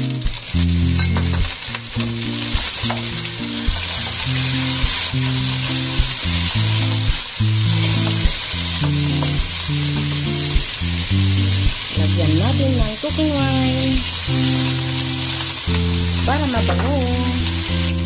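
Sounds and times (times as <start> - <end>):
background music low notes: 0.0 - 18.0
meat sizzling in hot oil: 0.0 - 18.0.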